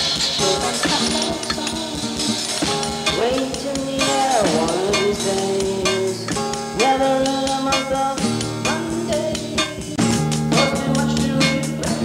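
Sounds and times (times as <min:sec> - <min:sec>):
band playing rock song: 0:00.0 - 0:12.0.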